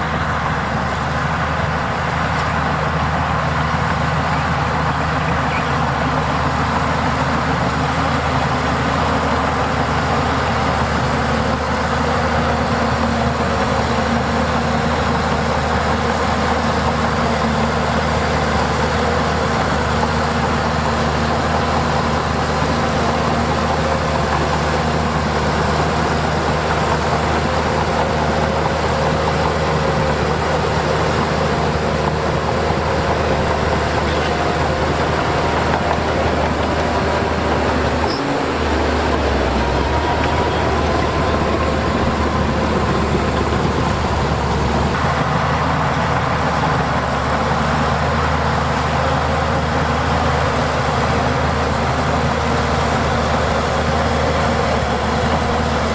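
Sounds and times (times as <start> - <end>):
heavy machinery diesel engine: 0.0 - 55.9.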